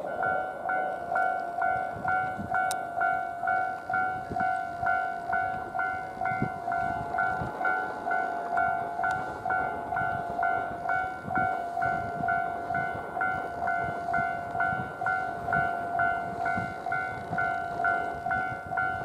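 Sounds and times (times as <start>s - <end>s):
electric train rumbling: 0.0s - 19.0s
level crossing warning bell: 0.0s - 19.0s.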